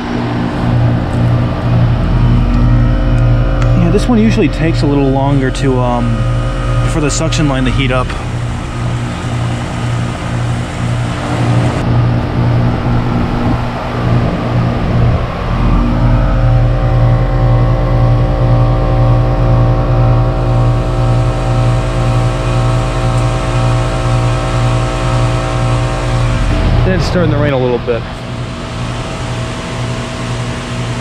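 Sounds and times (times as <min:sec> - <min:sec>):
steady tones: 0:00.0 - 0:19.8, 0:23.6 - 0:31.0
heat pump compressor and fan hum: 0:00.0 - 0:31.0.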